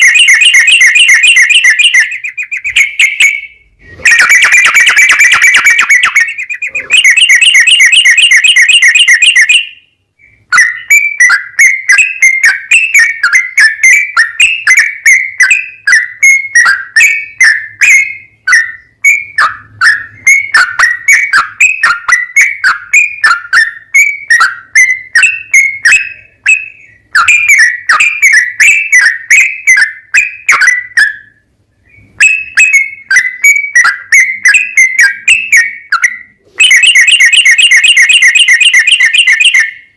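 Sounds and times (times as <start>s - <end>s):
bird chirping: 0.0s - 39.9s
bird song trill: 0.0s - 39.9s.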